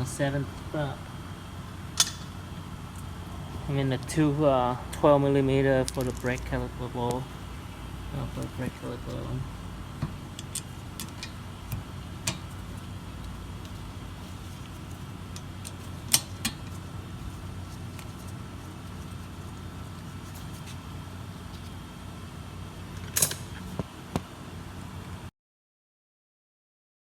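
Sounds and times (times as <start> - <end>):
steady low hum: 0.0 - 25.3.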